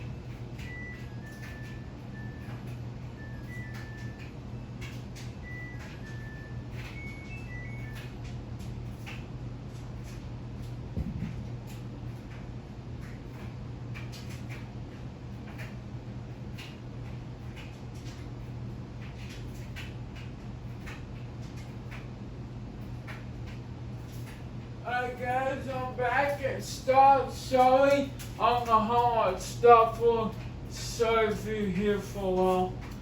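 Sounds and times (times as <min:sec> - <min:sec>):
ceiling fan motor humming: 0:00.0 - 0:33.0.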